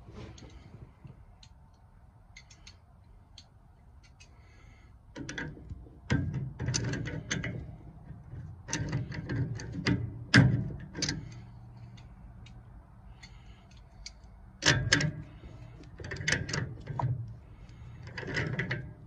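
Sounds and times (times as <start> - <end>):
wrench metallic clicks and clanks: 1.4 - 19.0.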